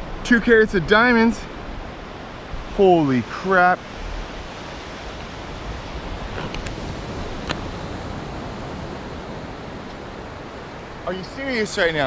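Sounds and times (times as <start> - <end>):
ocean surf on beach: 0.0 - 12.0.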